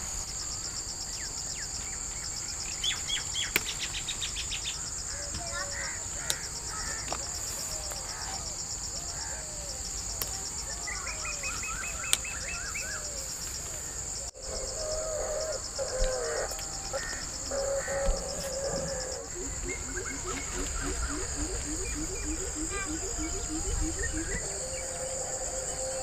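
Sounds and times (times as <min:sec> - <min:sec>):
insects trilling: 0:00.0 - 0:26.0
birds calling: 0:01.1 - 0:26.0.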